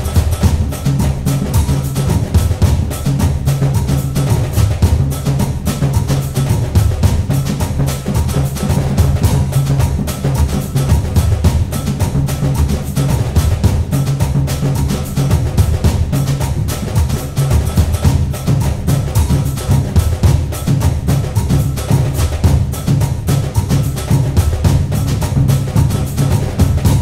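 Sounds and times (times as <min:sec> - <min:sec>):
rapid busy percussion: 0:00.0 - 0:27.0
steady low bass line: 0:00.0 - 0:27.0.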